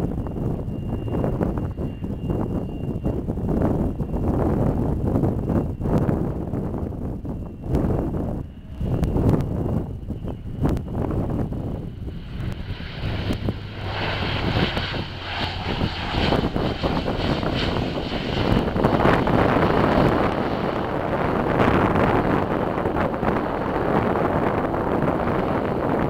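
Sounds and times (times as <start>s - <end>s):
high engine whine: 0.0s - 26.0s
turboprop engines running: 0.0s - 26.0s
wind on microphone: 0.0s - 26.0s.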